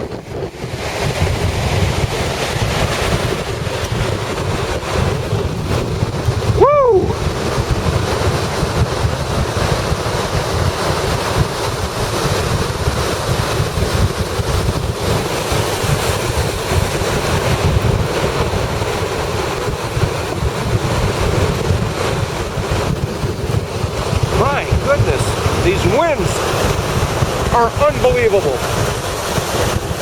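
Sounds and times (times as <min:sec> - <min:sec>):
surf crashing on beach: 0:00.0 - 0:30.0
wind buffeting microphone: 0:00.0 - 0:30.0.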